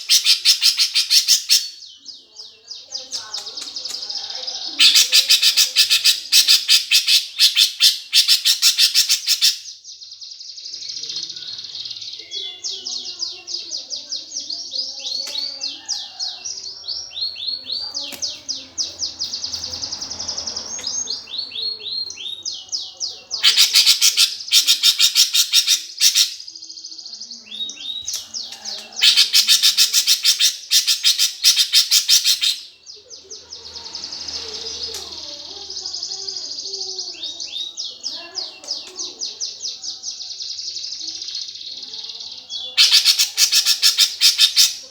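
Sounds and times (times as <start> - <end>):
harsh bursts of chatter: 0.0 - 9.8, 10.6 - 44.9
sparrows chattering: 0.0 - 44.9.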